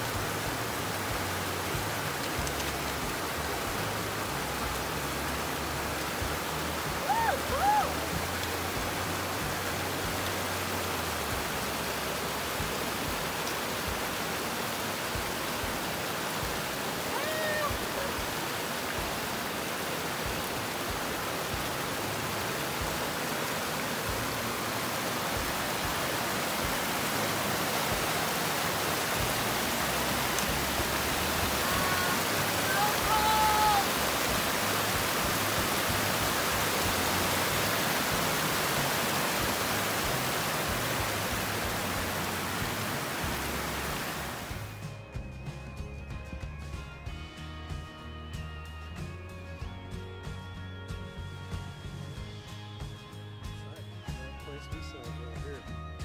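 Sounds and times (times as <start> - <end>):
creek rushing over rocks: 0.0 - 44.9.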